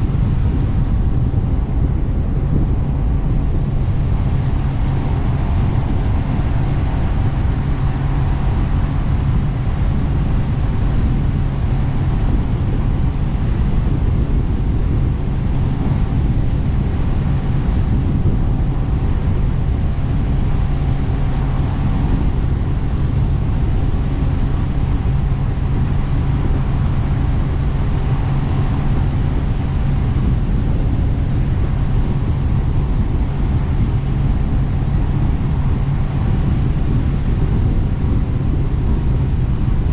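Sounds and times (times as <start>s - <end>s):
boat engine low drone: 0.0s - 39.9s.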